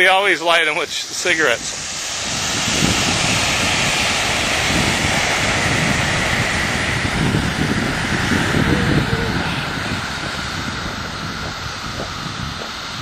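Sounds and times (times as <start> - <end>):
rocket motor roaring: 0.0 - 13.0.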